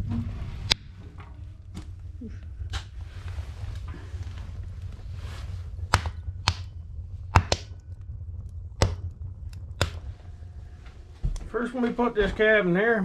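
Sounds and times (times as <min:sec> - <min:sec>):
burning logs popping: 0:00.0 - 0:13.0
steady low rumble: 0:00.0 - 0:13.0
wood fire crackling: 0:00.0 - 0:13.0.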